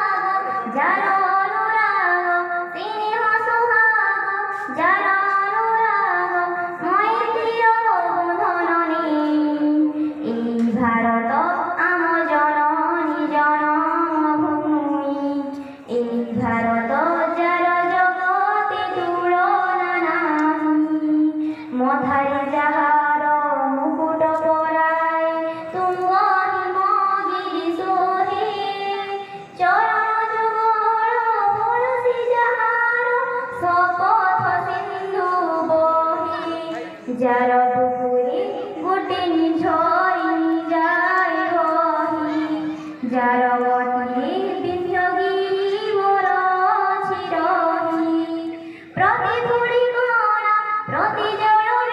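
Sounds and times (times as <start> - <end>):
girl singing into a microphone: 0.0 - 51.9.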